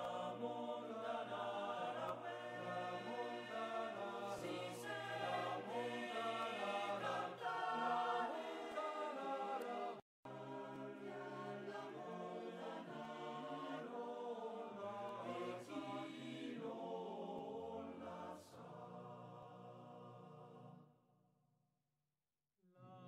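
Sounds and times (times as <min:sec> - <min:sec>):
choir singing sustained chords: 0:00.0 - 0:21.0, 0:22.7 - 0:23.0.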